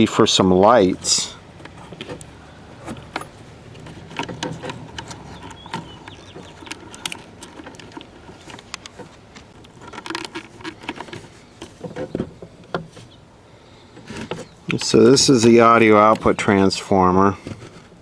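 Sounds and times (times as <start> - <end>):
plastic radio cabinet rattling: 0.9 - 13.2, 14.0 - 18.0.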